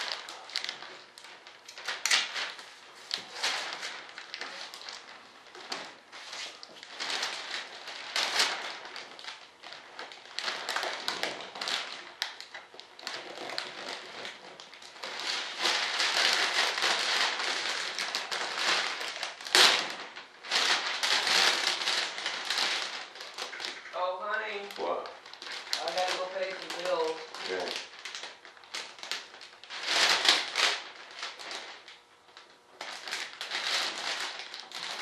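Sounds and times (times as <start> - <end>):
plastic film crinkling: 0.0 - 35.0.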